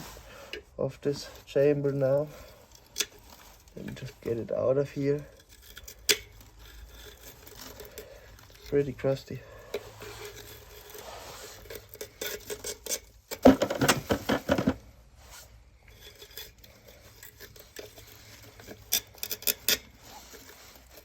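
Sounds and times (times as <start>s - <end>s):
dense rattling scrape: 0.0s - 21.0s
metal clinking and scraping: 0.0s - 21.0s.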